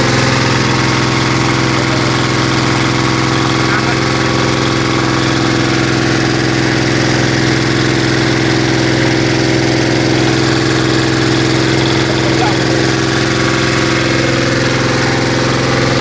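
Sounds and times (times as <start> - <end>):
pellet mill motor humming: 0.0 - 16.0.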